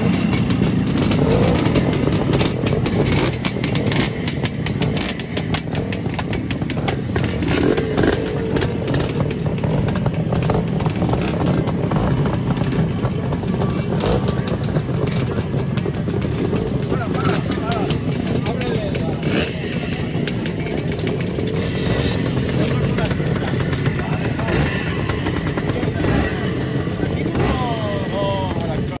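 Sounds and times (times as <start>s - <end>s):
motorcycle engines running: 0.0s - 29.0s.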